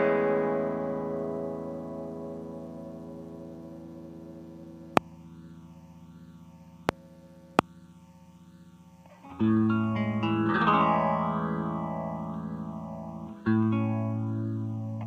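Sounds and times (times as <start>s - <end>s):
electric guitar chords wavering: 0.0s - 6.9s, 9.1s - 15.0s.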